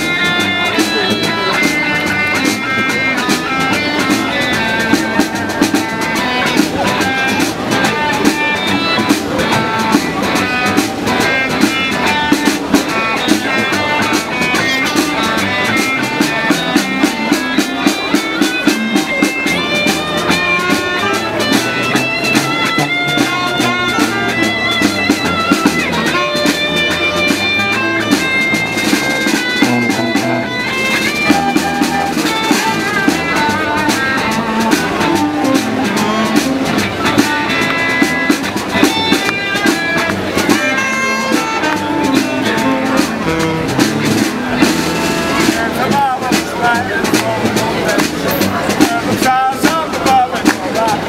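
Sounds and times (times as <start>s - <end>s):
street band playing funky tune: 0.0s - 51.0s.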